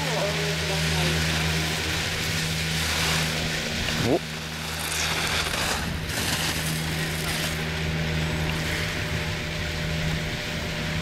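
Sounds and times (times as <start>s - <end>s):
constant hiss: 0.0s - 11.0s
low motor hum: 0.0s - 11.0s.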